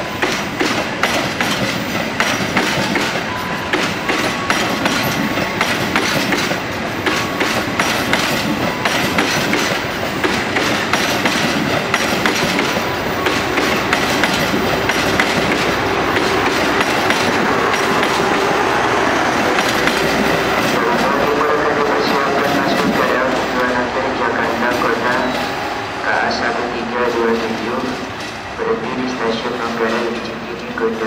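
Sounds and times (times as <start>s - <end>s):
train coaches rumbling past: 0.0s - 31.0s
wheels clacking over rail joints: 0.1s - 25.5s.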